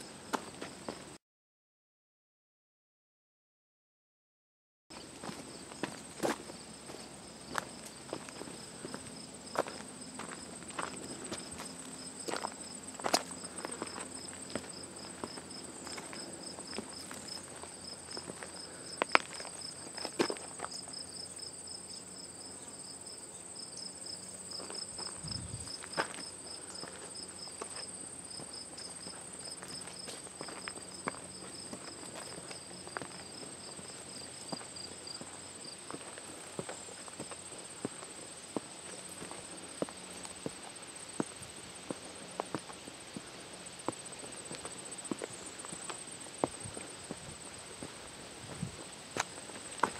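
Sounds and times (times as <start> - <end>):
footsteps on trail steps: 4.9 - 20.8, 24.5 - 49.9
insects buzzing and chirping: 5.0 - 49.9.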